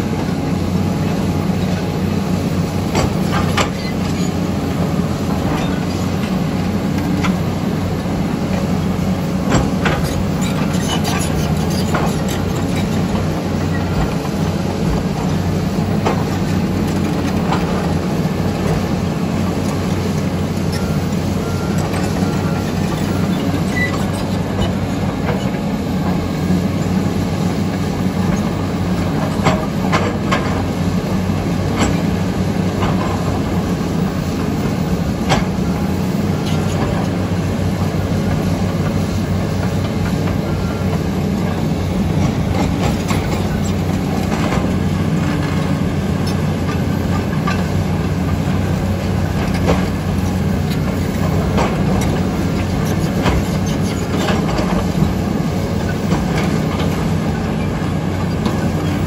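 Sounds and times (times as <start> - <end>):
heavy diesel engines running: 0.0 - 59.0
steel tracks clanking: 0.0 - 59.0.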